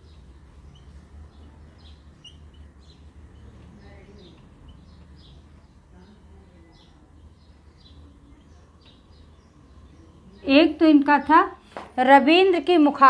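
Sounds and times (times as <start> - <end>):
small birds chirping: 0.0 - 12.8
low steady hum: 0.0 - 13.0.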